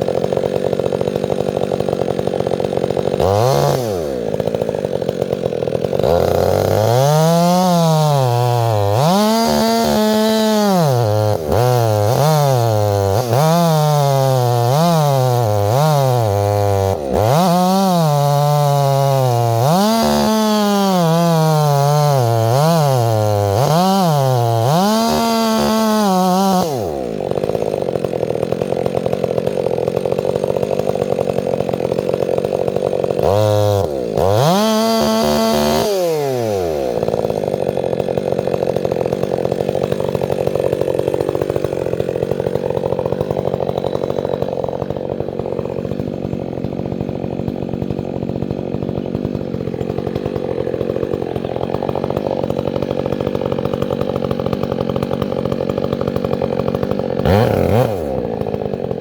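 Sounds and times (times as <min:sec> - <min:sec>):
chainsaw cutting tree: 0:00.0 - 0:59.0.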